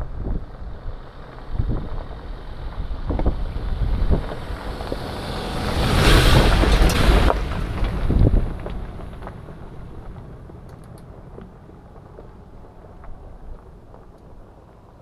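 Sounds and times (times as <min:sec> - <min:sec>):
car engine rumble: 0:00.0 - 0:15.0
wind buffeting microphone: 0:00.0 - 0:15.0
tyres crunching on gravel: 0:00.2 - 0:15.0.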